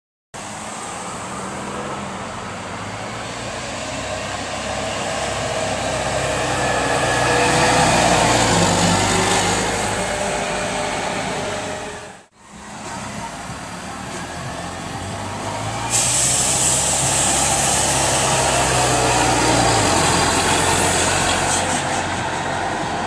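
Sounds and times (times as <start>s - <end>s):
bus engine hum with whine: 0.4s - 23.0s.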